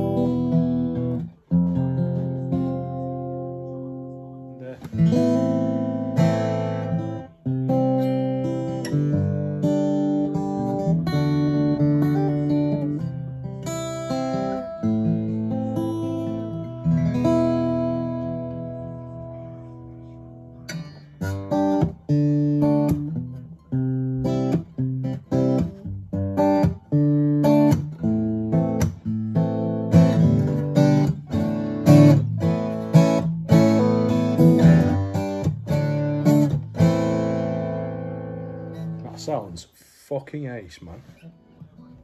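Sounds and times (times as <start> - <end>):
acoustic guitar strumming chords: 0.0 - 42.0.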